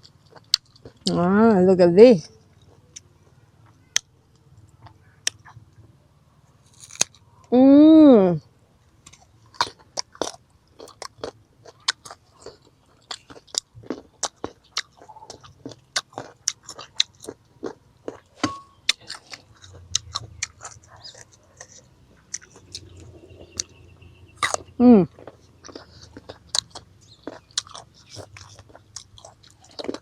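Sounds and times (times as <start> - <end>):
person chewing crisp fruit: 0.0 - 1.2, 2.3 - 7.5, 9.0 - 30.0.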